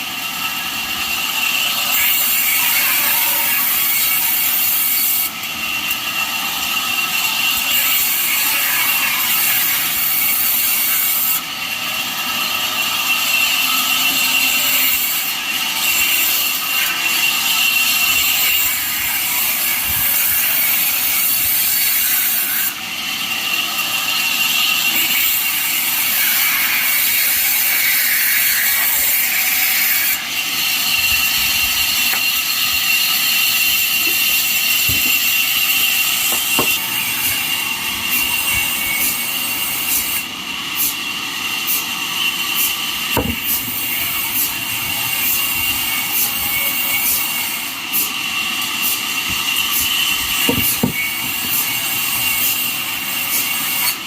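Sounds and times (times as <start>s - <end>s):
saw blade whining through wood: 0.0s - 54.0s.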